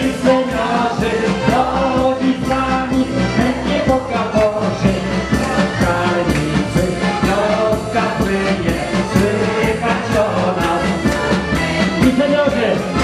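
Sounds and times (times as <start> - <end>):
dance band playing: 0.0 - 13.0
person singing: 0.0 - 13.0.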